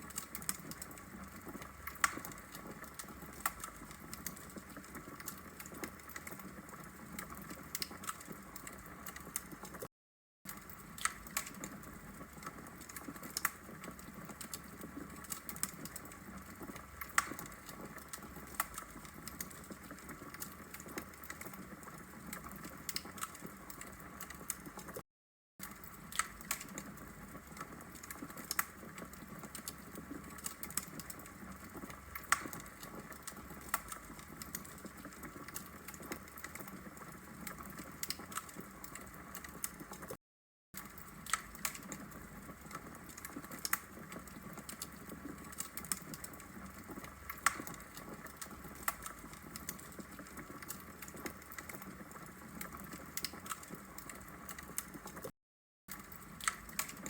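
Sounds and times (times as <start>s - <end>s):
logs crackling in fireplace: 0.0s - 9.9s, 10.5s - 25.0s, 25.6s - 40.2s, 40.8s - 55.3s, 55.9s - 57.0s.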